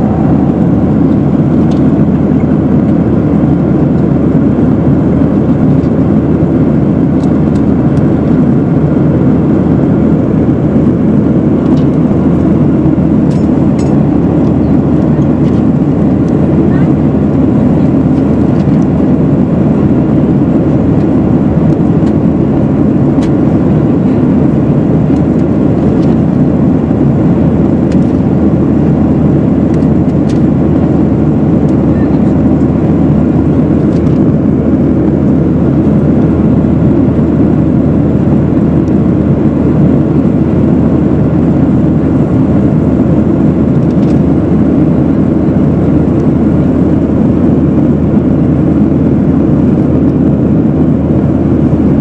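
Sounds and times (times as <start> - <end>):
jet airliner cabin noise: 0.0 - 52.0.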